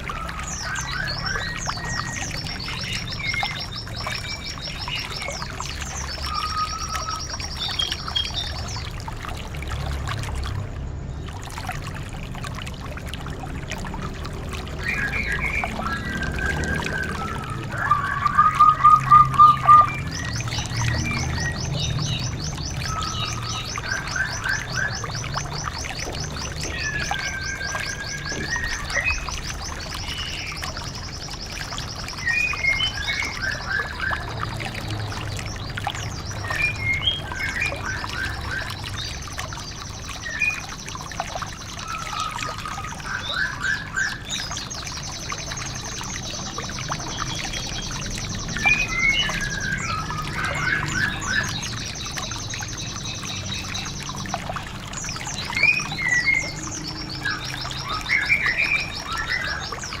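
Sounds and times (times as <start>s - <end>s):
birds singing high trills: 0.0s - 9.2s, 14.6s - 60.0s
running water: 0.0s - 60.0s.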